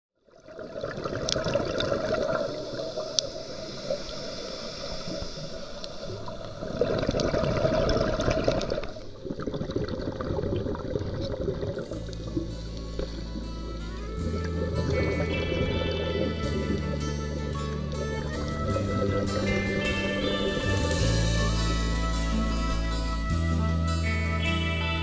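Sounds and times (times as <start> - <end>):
underwater rushing water: 0.3 - 23.0.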